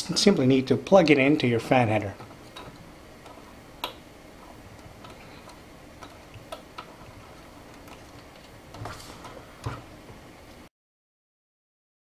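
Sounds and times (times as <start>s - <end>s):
steady low hiss: 0.0s - 10.7s.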